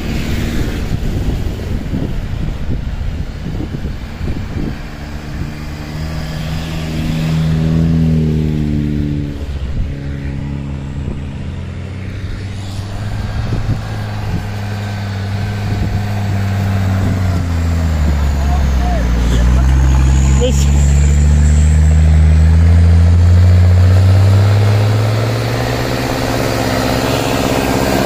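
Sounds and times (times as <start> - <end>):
car engine pulling through snow: 0.0 - 28.0
car engine running steadily: 0.0 - 28.0.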